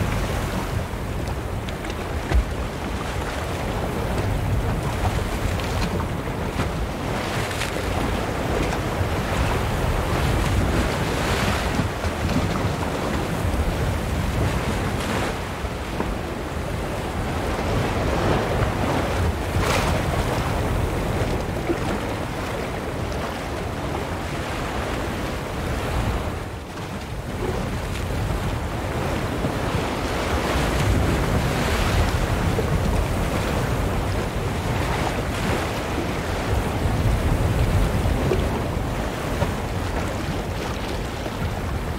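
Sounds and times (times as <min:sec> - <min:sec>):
ocean waves splashing on shore: 0:00.0 - 0:41.9.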